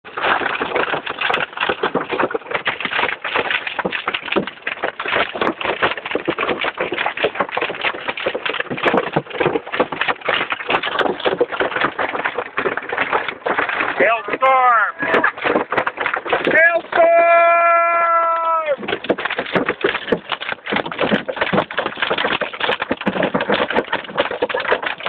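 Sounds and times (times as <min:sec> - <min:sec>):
hail rattling on a car roof: 0:00.1 - 0:25.0.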